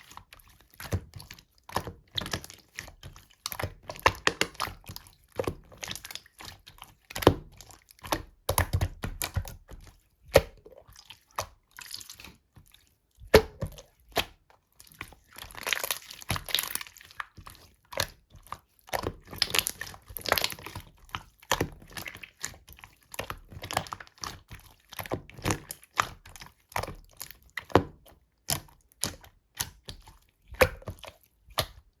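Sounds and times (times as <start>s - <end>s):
slime squishing and squelching: 0.0s - 32.0s.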